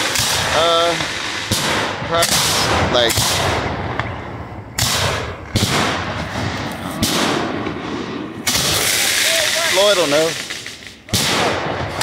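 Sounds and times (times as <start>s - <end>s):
fireworks shells banging: 0.0s - 12.0s.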